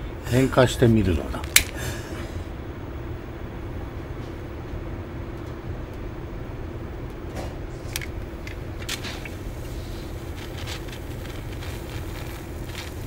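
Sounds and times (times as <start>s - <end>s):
faint hum: 0.0s - 13.0s
low background rumble: 0.0s - 13.0s.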